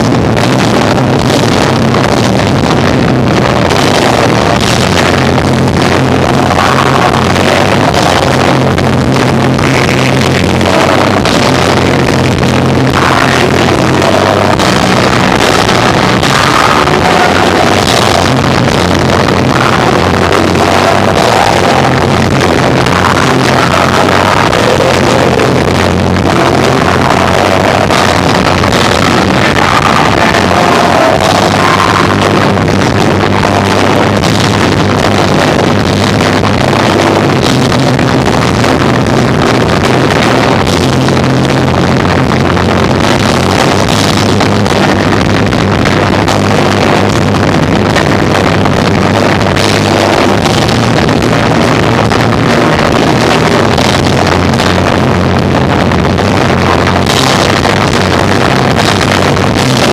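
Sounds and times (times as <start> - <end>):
distorted live rock band: 0.0 - 59.9.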